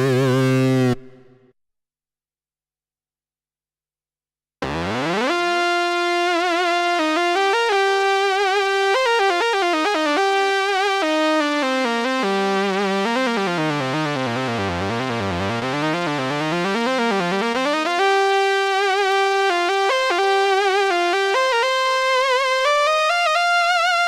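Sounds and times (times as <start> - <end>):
synthesizer lead melody: 4.6 - 24.0.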